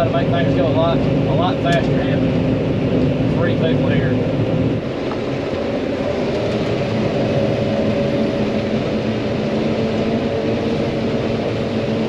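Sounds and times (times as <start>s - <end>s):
combine harvester engine hum: 0.0s - 12.0s.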